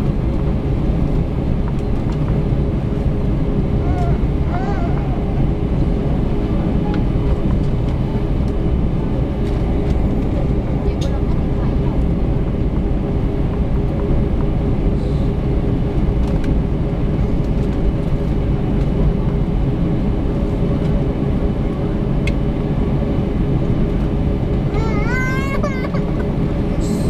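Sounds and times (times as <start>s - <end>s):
airliner engines rumbling: 0.0s - 27.0s.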